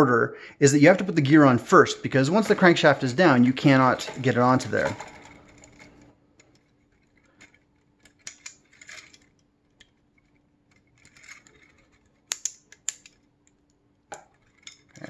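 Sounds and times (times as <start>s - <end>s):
plastic parts clicking and rattling: 2.2s - 15.0s.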